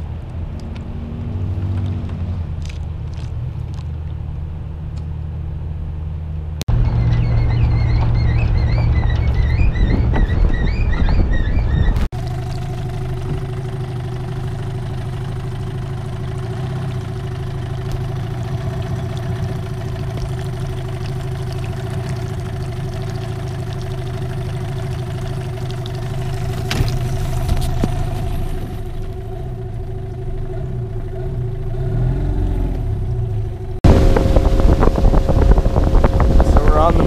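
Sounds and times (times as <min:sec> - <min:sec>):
outboard motor running: 0:06.7 - 0:37.0.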